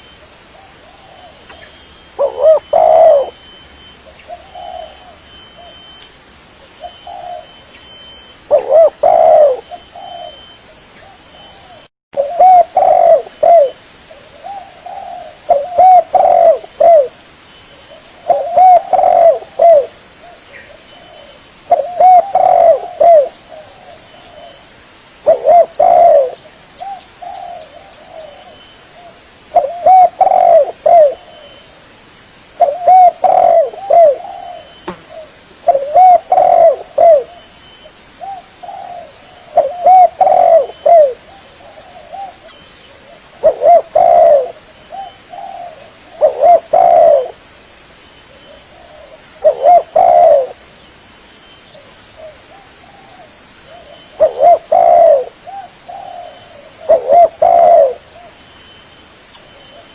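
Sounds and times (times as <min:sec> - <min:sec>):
dove cooing: 0:00.0 - 0:06.0, 0:06.7 - 0:17.2, 0:17.9 - 0:24.6, 0:25.2 - 0:31.6, 0:32.6 - 0:37.5, 0:38.2 - 0:47.4, 0:48.3 - 0:50.6, 0:51.7 - 0:58.4.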